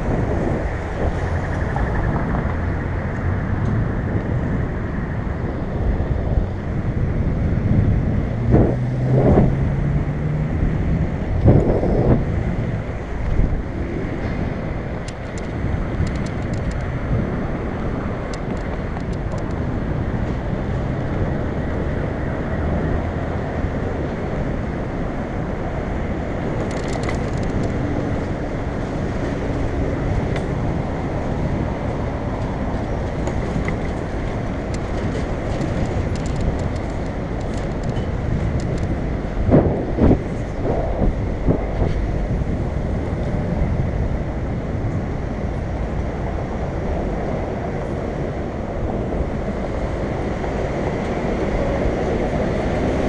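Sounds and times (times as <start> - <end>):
road rumble: 0.0 - 53.0
wind rush: 0.0 - 53.0.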